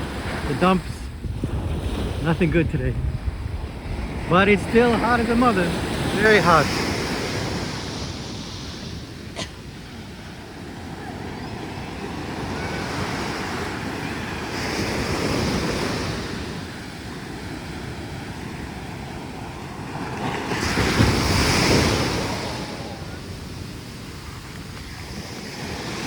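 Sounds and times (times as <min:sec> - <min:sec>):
waves crashing on beach: 0:00.0 - 0:26.0
wind on microphone: 0:00.0 - 0:26.0.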